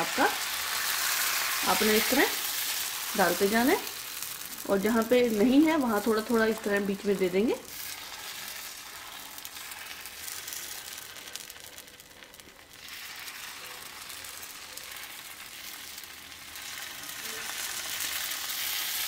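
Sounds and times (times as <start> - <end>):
batter sizzling on a hot pan: 0.0 - 19.0.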